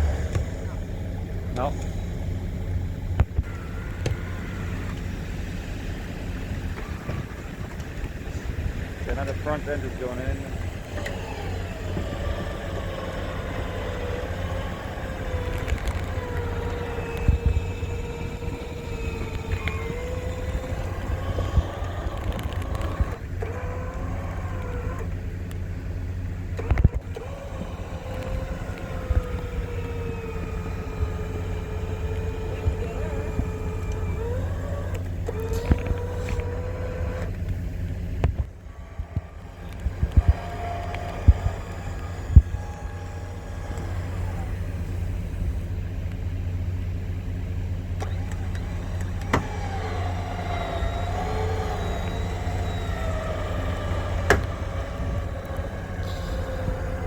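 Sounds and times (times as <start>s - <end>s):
electric winch whining: 0.0s - 57.0s
engine idling: 0.0s - 57.0s.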